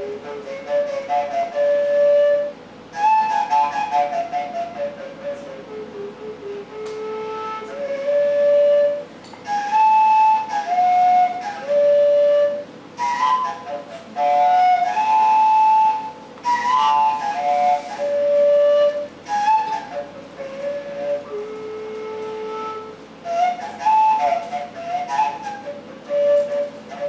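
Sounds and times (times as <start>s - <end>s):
flute playing slow melody: 0.0s - 27.0s.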